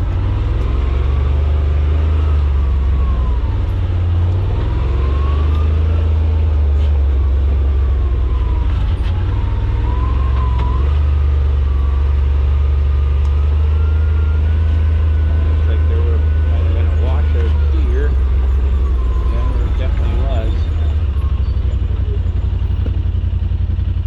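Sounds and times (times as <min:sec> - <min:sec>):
thin engine whine: 0:00.0 - 0:23.0
utility vehicle engine drone: 0:00.0 - 0:24.0.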